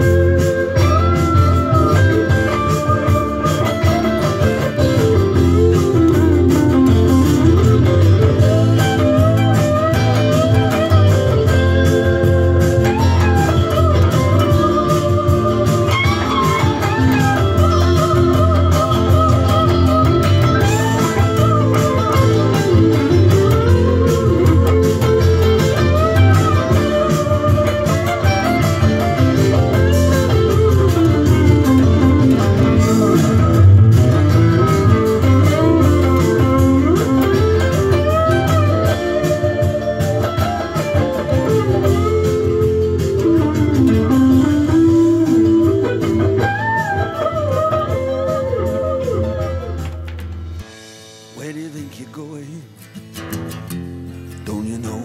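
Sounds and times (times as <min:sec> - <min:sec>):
electric guitar lead melody: 0:00.0 - 0:51.0
band recording playing: 0:00.0 - 0:55.0.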